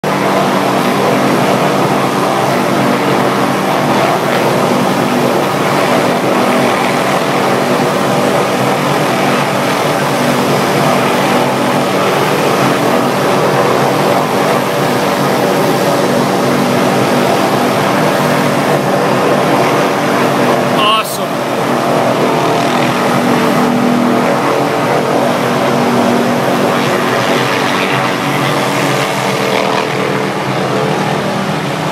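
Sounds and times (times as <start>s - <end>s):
helicopter hovering: 0.0s - 31.9s.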